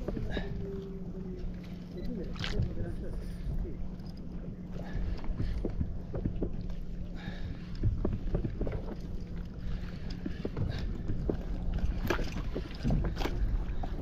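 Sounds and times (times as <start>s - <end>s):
water splashing against kayak hull: 0.0s - 14.0s
wind rumble on microphone: 0.0s - 14.0s.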